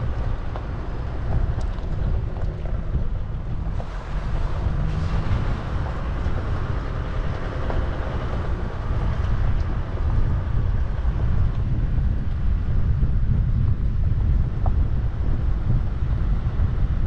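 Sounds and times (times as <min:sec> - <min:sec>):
vehicle and road rumble: 0:00.0 - 0:17.0
wind buffeting microphone: 0:00.0 - 0:17.0.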